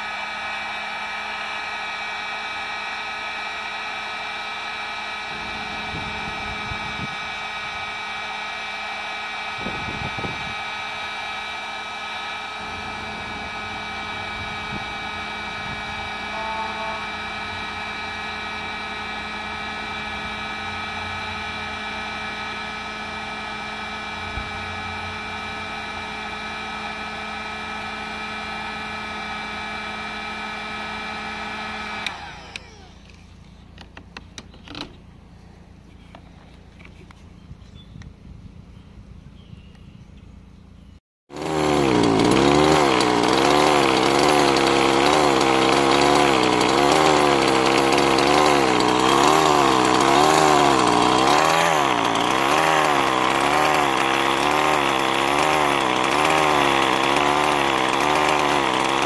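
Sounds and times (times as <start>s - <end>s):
heat gun fan whining: 0.0s - 38.7s, 41.3s - 59.0s.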